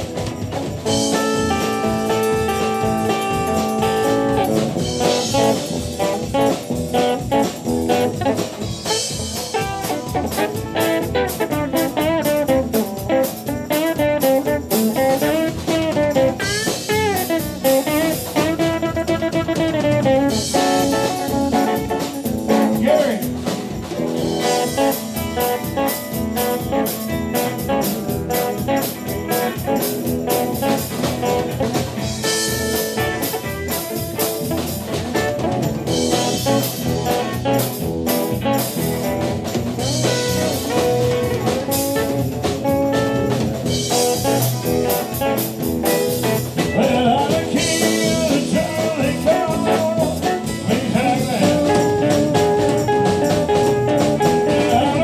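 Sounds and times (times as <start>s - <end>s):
drum kit beat: 0.0s - 55.0s
electric bass: 0.0s - 55.0s
electric guitars: 0.0s - 55.0s.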